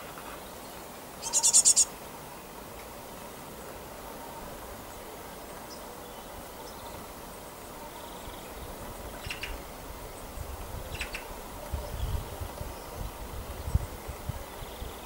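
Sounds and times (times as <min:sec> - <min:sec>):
steady outdoor hiss: 0:00.0 - 0:15.0
songbird calls: 0:00.3 - 0:02.0, 0:04.0 - 0:15.0.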